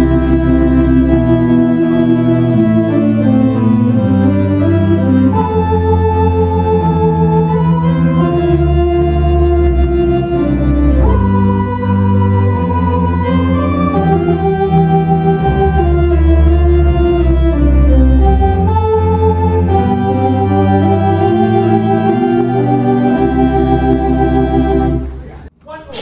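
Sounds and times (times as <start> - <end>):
pipe organ playing sustained chords: 0.0 - 25.2.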